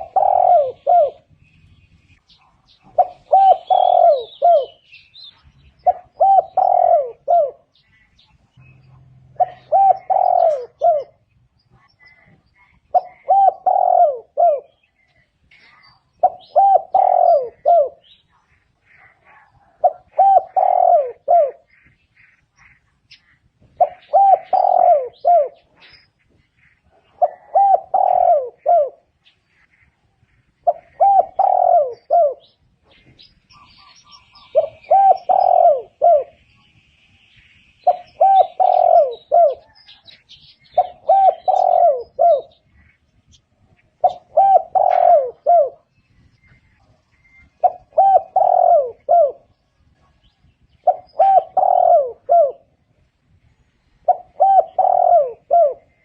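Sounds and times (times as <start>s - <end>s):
dove cooing: 0.0s - 1.3s, 2.4s - 21.9s, 23.7s - 26.0s, 26.6s - 29.6s, 30.3s - 36.5s, 37.8s - 53.2s, 54.0s - 56.0s
small birds chirping: 0.0s - 56.0s.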